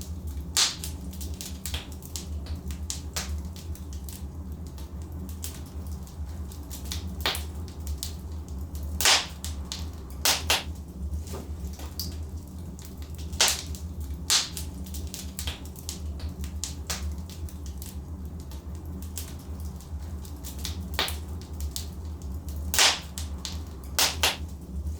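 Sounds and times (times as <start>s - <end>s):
fire crackling and popping: 0.0s - 24.9s.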